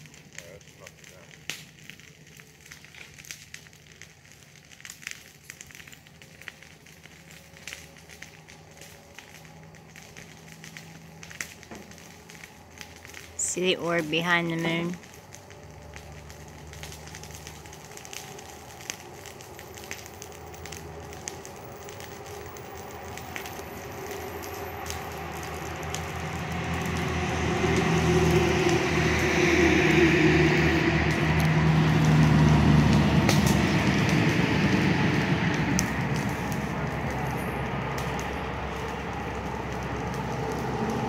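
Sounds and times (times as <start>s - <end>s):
passing vehicle rumble: 4.8s - 41.0s.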